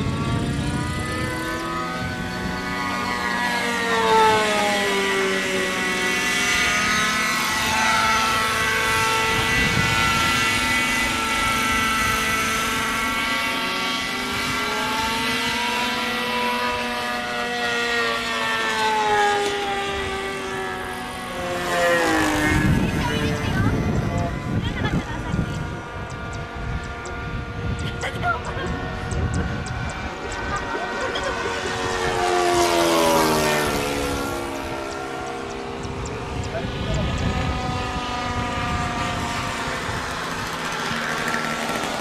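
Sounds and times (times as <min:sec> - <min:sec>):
model airplane engine drone: 0:00.0 - 0:42.0.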